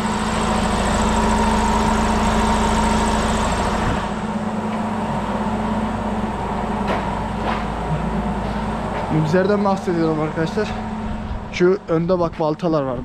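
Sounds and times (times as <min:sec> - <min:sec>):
deep low engine rumble: 0:00.0 - 0:13.0
engine humming: 0:00.0 - 0:13.0.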